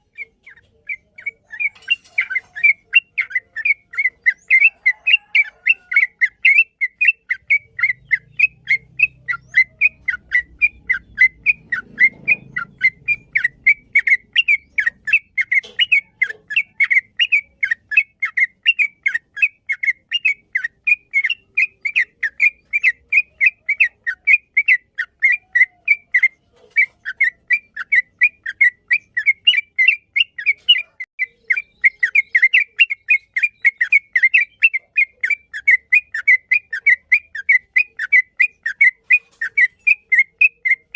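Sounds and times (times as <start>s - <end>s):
bird singing chirpy whistled notes: 0.0s - 26.4s, 27.0s - 40.9s.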